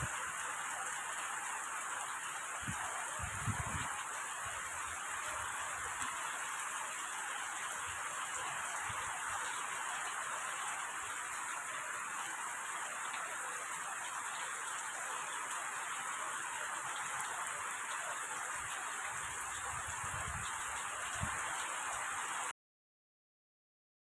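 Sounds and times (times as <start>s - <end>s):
steady rain hiss: 0.0s - 22.5s.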